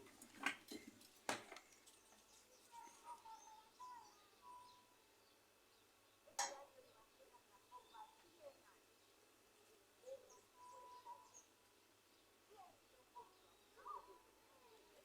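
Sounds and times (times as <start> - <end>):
faint bird chirps: 1.8 - 15.0.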